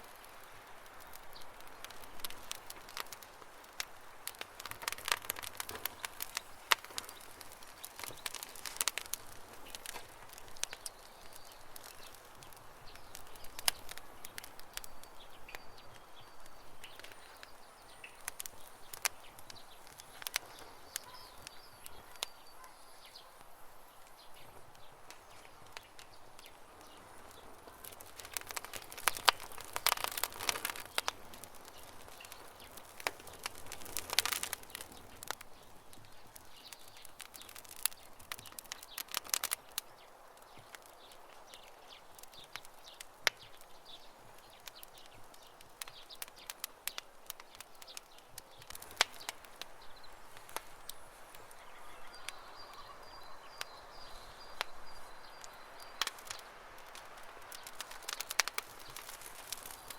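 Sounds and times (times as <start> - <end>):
campfire crackling and popping: 0.0 - 59.9
birds chirping faintly: 0.1 - 59.9.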